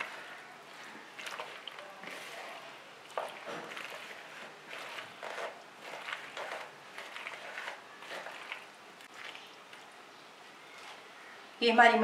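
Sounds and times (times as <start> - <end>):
spoon scraping plastic bowl: 0.0 - 9.8.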